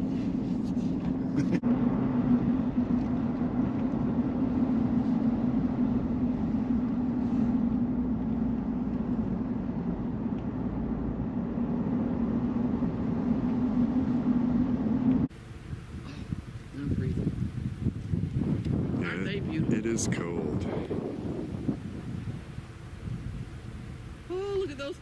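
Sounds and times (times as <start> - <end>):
vehicle cabin road drone: 0.0 - 25.0.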